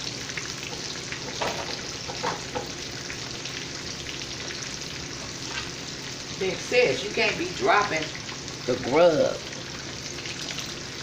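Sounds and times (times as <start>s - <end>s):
fish sizzling in hot oil: 0.0s - 11.0s
oil popping and crackling: 0.0s - 11.0s.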